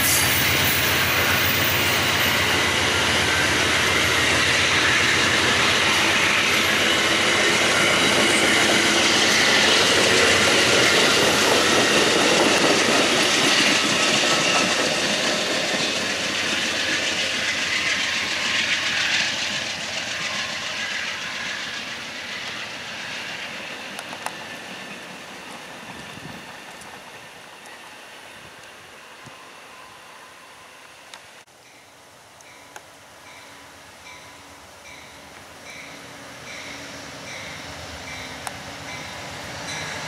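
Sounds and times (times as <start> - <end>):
train cars rolling on rails: 0.0 - 40.0.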